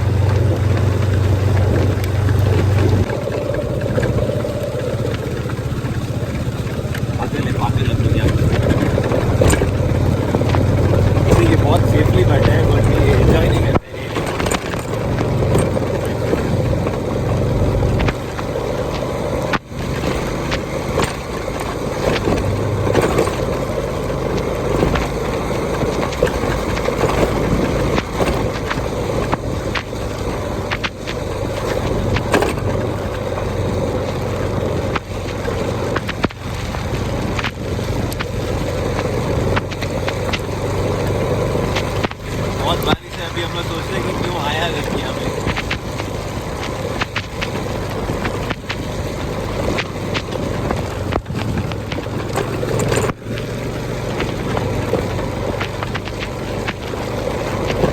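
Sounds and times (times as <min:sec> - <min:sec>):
knocks and rattles from bumps: 0:00.0 - 0:57.9
motorbike engine: 0:00.0 - 0:57.9
wind and rain on microphone: 0:00.0 - 0:57.9.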